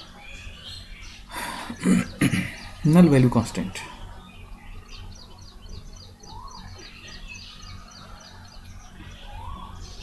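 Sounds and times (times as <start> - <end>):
bird singing high chirps: 0.0 - 10.0
steady low hum: 0.0 - 10.0.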